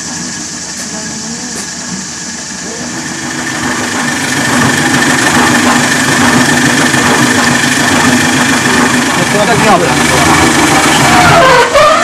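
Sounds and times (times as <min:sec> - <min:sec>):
concrete mixer running: 0:00.0 - 0:12.0.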